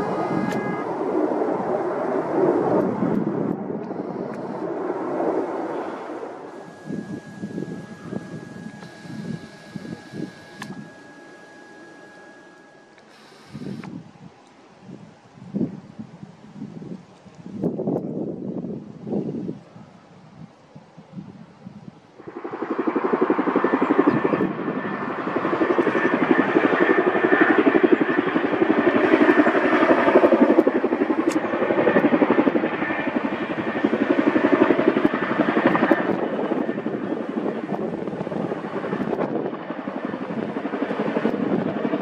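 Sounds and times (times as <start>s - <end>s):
helicopter rotors chopping overhead: 0.0s - 14.2s, 20.8s - 42.0s.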